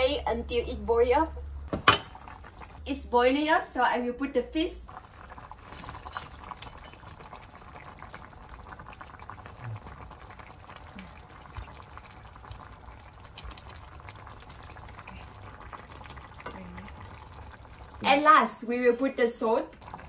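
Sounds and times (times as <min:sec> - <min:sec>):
broth bubbling in a pan: 0:00.0 - 0:03.6, 0:04.5 - 0:20.0.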